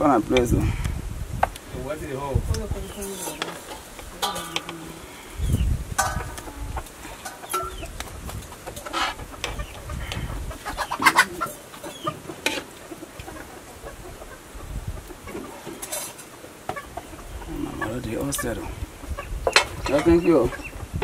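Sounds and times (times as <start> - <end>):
chickens clucking: 1.4 - 21.0.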